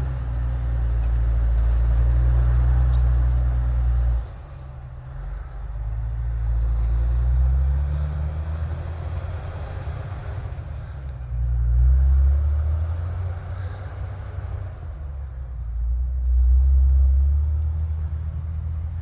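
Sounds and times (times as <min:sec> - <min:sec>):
truck diesel engine labouring uphill: 0:00.0 - 0:19.0.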